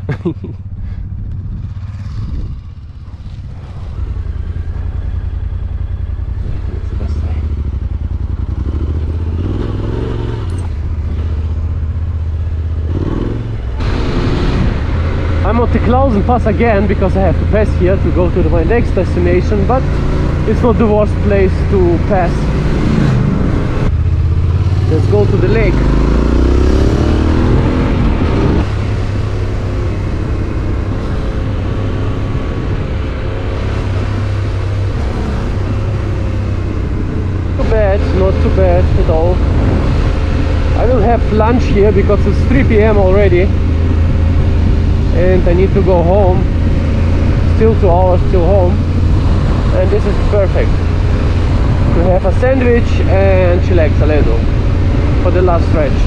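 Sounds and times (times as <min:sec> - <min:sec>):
motorcycle engine running: 0:00.3 - 0:56.0
wind rush: 0:00.6 - 0:05.2, 0:12.8 - 0:56.0.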